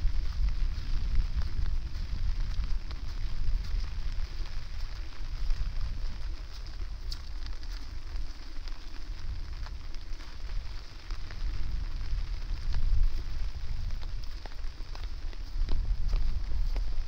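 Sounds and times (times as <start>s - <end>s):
rain falling: 0.0s - 17.0s
raindrops ticking sharply: 0.0s - 17.0s
wind buffeting microphone: 0.0s - 17.0s.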